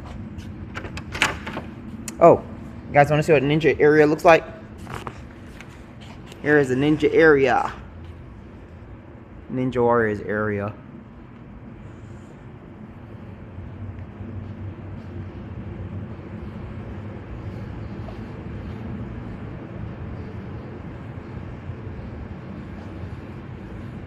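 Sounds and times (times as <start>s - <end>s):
heating system humming: 0.0s - 24.0s.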